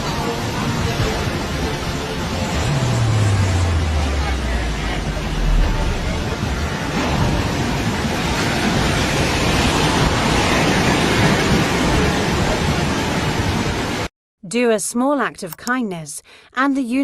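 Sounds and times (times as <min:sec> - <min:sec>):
floodwater rushing roar: 0:00.0 - 0:14.1.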